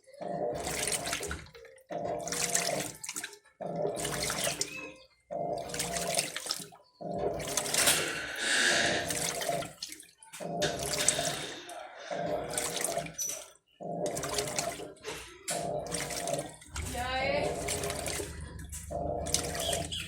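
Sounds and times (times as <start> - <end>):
washing machine water sloshing: 0.0 - 20.0.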